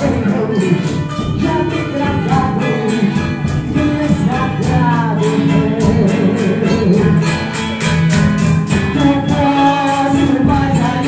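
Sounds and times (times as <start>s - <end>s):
woman singing into a microphone: 0.0s - 7.4s, 8.9s - 11.0s
acoustic guitar: 0.0s - 11.0s
hand drum beat: 0.0s - 11.0s.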